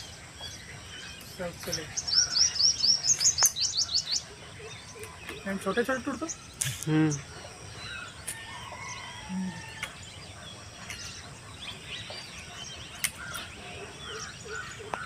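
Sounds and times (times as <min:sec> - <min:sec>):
birds chirping and calling: 0:00.0 - 0:15.0
steady outdoor hiss: 0:00.0 - 0:15.0.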